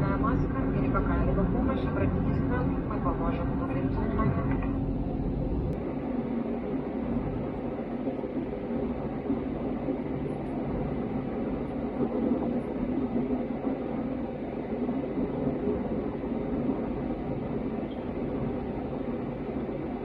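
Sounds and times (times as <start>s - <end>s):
airplane cabin engine and airflow: 0.0s - 20.0s.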